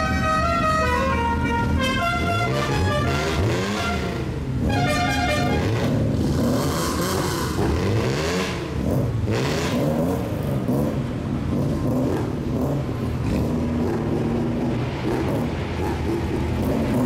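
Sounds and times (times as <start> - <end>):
car engine revving: 0.9 - 17.0.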